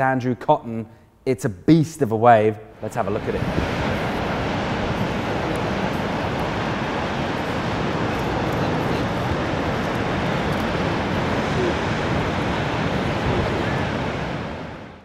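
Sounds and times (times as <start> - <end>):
wind: 2.6 - 15.0
ocean surf breaking: 2.8 - 15.0.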